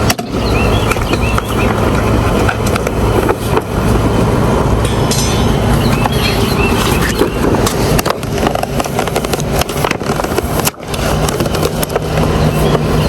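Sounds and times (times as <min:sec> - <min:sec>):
lawn mower wheels rattling: 0:00.0 - 0:13.0.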